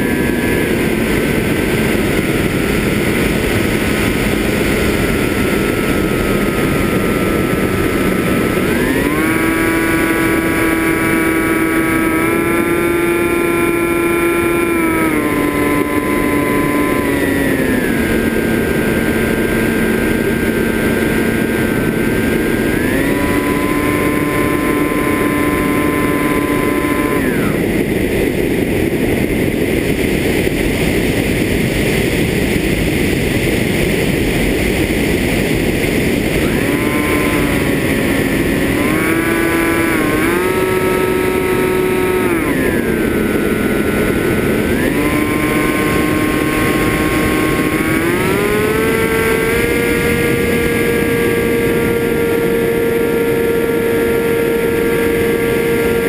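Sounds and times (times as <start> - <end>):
drone motors whining: 0.0 - 30.6, 31.2 - 56.0
rushing wind and propeller wash: 0.0 - 56.0.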